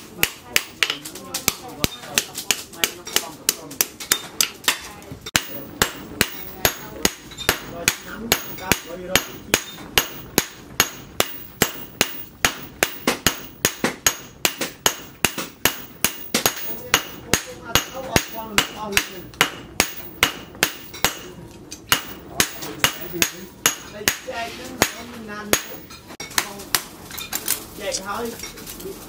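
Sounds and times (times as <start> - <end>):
hammers striking hot steel on anvil: 0.0 - 26.9.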